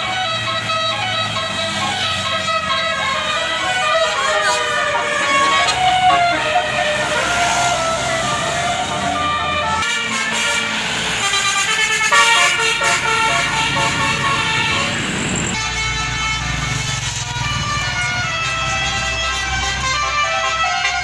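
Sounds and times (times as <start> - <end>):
bus engine rumble: 0.0 - 21.0
multi-tone bus horn tune: 0.0 - 21.0.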